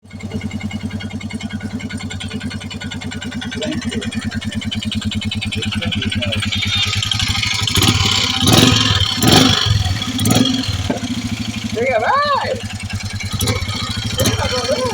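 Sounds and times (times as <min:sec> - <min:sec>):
motorcycle engine thumping: 0:00.0 - 0:14.9
rhythmic engine ticking: 0:00.0 - 0:14.9.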